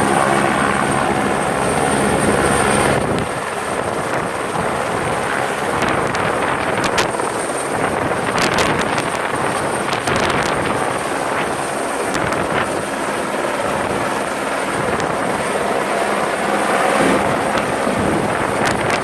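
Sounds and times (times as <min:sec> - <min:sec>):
helicopter rotor and engine: 0:00.0 - 0:19.0.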